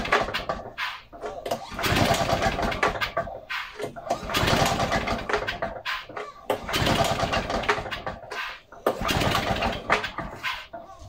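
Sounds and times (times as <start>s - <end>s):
lawnmower engine sputtering: 0.0s - 5.8s, 6.4s - 10.4s.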